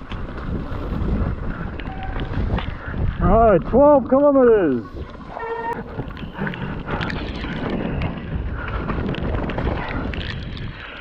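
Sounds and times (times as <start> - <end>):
bike clicks and rattles: 0.0 - 11.0
bike tyre noise: 0.0 - 11.0
wind buffeting microphone: 0.0 - 11.0.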